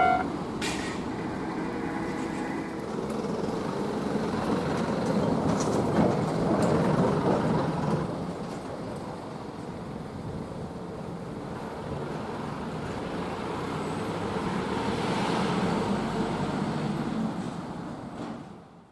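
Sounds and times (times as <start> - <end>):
rumble of passing vehicles: 0.0 - 18.9.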